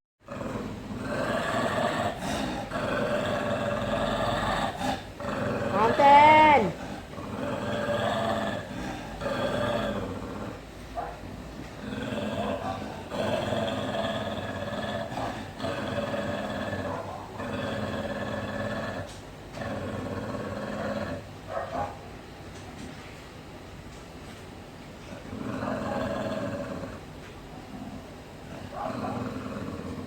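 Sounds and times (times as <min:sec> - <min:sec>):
dog growling: 0:00.2 - 0:21.9, 0:25.0 - 0:30.0.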